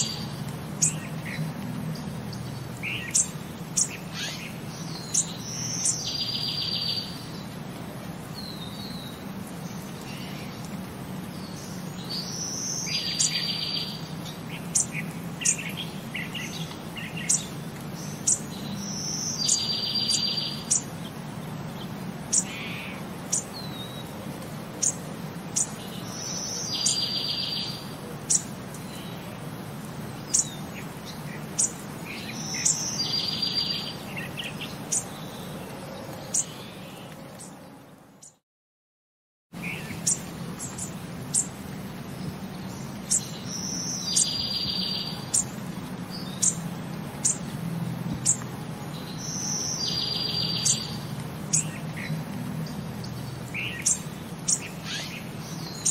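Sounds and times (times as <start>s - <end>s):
bird song with buzzy trill: 2.0s - 7.6s, 11.3s - 24.1s, 24.8s - 29.2s, 30.2s - 38.4s, 39.6s - 46.6s, 47.2s - 47.5s, 48.1s - 55.9s.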